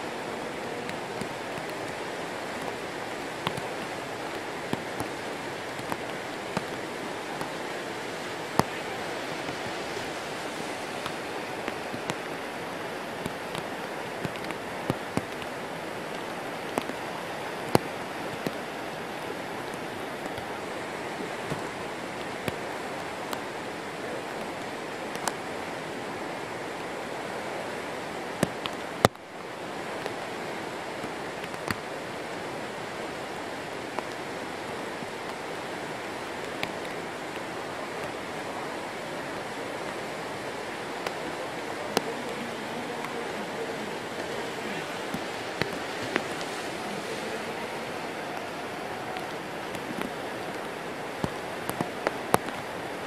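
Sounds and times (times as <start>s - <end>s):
whitewater rapids rushing: 0.0s - 53.0s.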